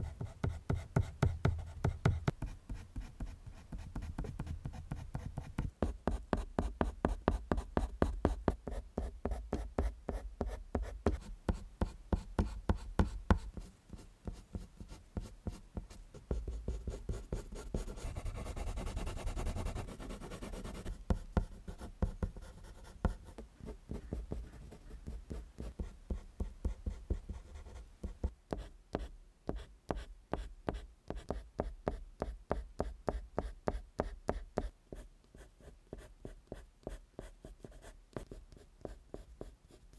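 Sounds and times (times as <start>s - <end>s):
colored pencil scratching on paper: 0.1s - 39.9s.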